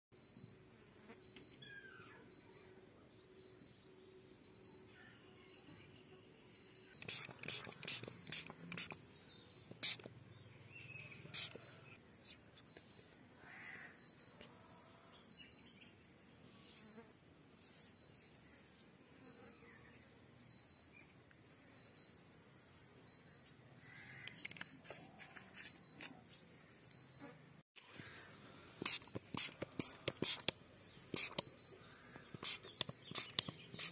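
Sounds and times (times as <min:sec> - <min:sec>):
insect trilling: 0:00.6 - 0:02.7, 0:04.5 - 0:17.2, 0:17.9 - 0:33.9.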